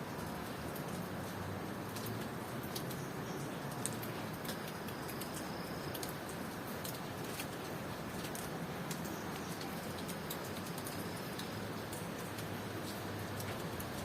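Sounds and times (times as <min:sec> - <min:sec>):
rain falling: 0:00.0 - 0:14.0
sharp drips ticking: 0:00.0 - 0:14.0.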